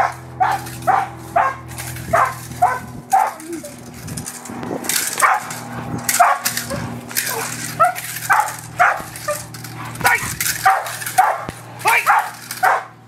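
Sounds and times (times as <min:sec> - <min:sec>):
dog barking sharply: 0:00.0 - 0:03.4, 0:05.2 - 0:05.5, 0:06.2 - 0:12.9.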